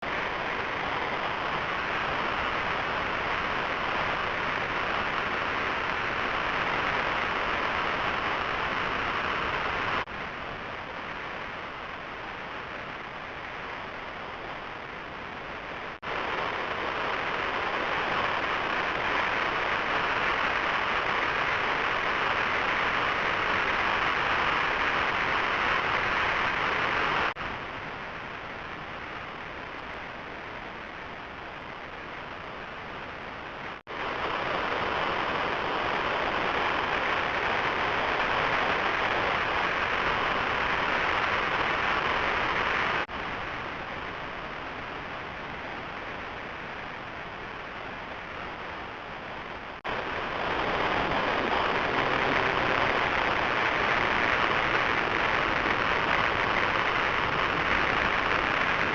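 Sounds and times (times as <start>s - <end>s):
steady hissing noise: 0.0s - 58.9s.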